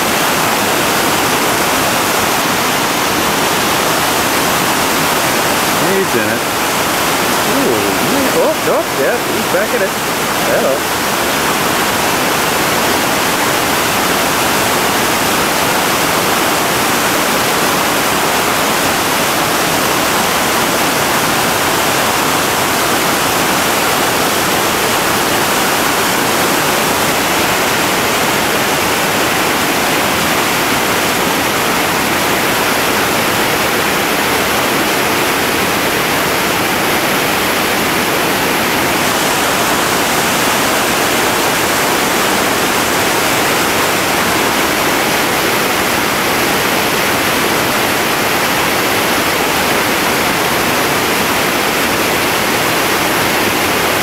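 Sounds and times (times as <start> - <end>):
rapids rushing over rocks: 0.0 - 54.0.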